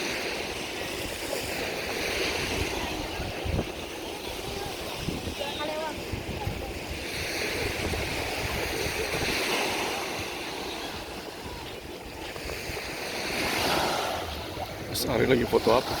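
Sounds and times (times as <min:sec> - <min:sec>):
sea waves washing onto beach: 0:00.0 - 0:16.0
wind buffeting microphone: 0:00.0 - 0:16.0.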